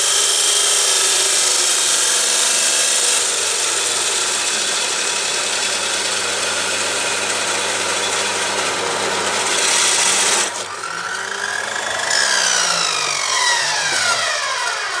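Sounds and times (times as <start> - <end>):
cut-off saw grinding steel: 0.0 - 15.0
saw motor whine: 0.0 - 15.0.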